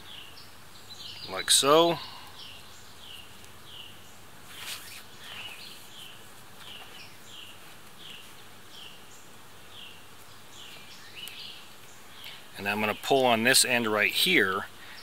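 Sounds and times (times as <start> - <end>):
bird chirping: 0.0 - 15.0
rustle: 0.0 - 15.0.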